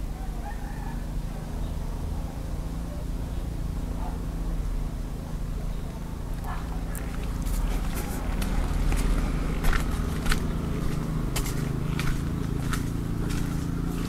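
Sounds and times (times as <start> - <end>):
faint distant calls: 0.0 - 14.0
steady low rumble: 0.0 - 14.0.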